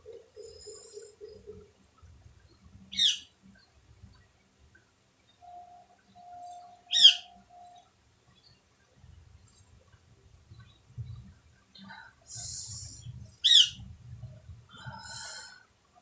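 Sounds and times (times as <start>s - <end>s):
faint steady tone: 0.0s - 16.0s.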